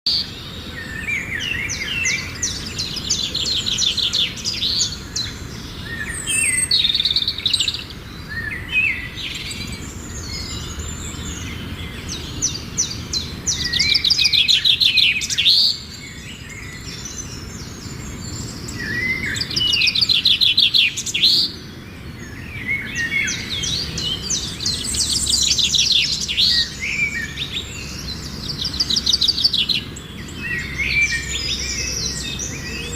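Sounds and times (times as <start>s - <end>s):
birds singing and calling: 0.1s - 32.9s
steady low background noise: 0.1s - 32.9s.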